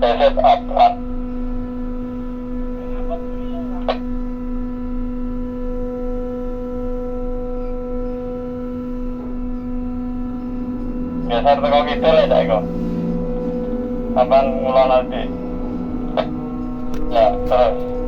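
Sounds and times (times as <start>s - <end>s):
electric motor and pump humming: 0.0s - 18.0s.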